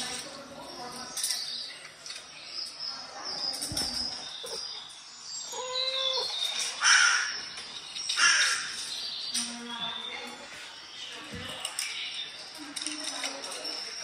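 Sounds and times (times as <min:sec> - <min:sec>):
birdsong through speaker: 0:00.0 - 0:14.0
harsh bird calls: 0:01.1 - 0:12.5.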